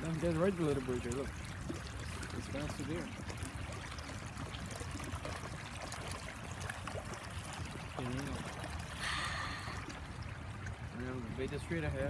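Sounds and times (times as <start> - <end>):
small stream trickling: 0.0 - 12.0.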